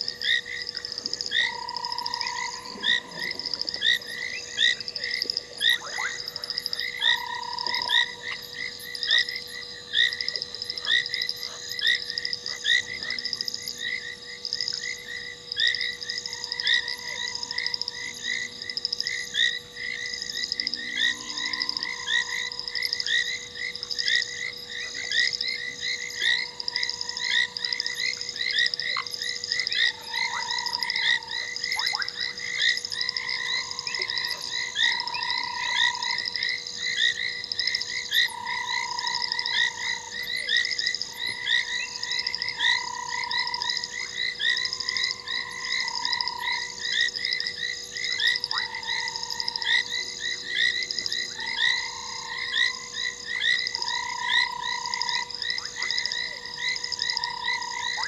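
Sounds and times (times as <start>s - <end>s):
faint steady hum: 0.0s - 58.0s
frogs chirping: 0.0s - 58.0s
low frog call: 0.0s - 58.0s.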